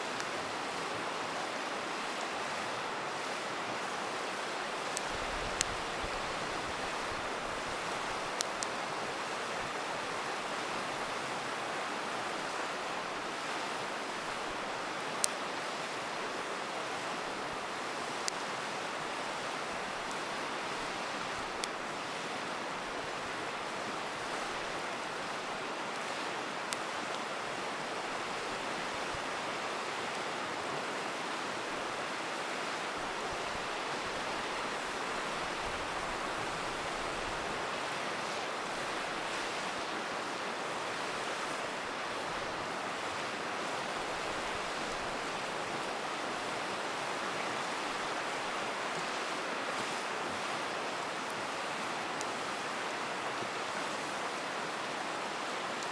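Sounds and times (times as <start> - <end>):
campfire crackling: 0.0 - 55.9
river rushing: 0.0 - 55.9.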